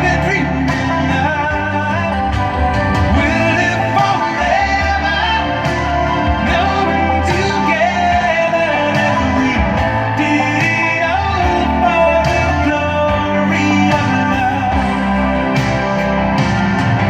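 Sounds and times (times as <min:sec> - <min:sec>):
guitar: 0:00.0 - 0:17.0
person singing: 0:00.0 - 0:17.0.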